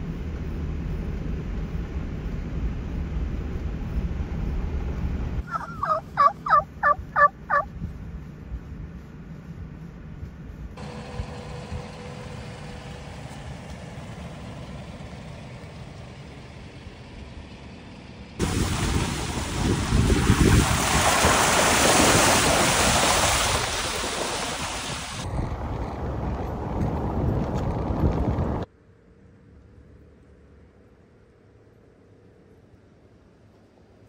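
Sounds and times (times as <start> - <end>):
rushing road and wind noise: 0.0 - 34.0
truck tyres and engine rumble: 0.0 - 34.0.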